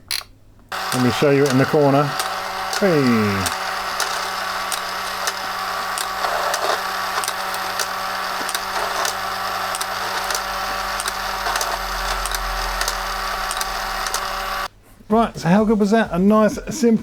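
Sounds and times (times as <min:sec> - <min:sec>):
mechanical whirr of toy motor: 0:00.7 - 0:14.7.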